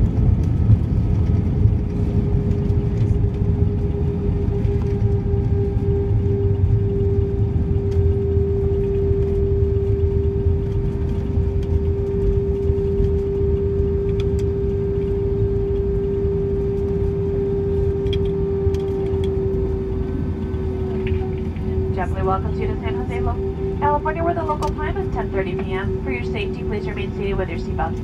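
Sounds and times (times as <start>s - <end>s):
airplane cabin low rumble: 0.0s - 28.0s
mid-pitched hum: 0.0s - 28.0s.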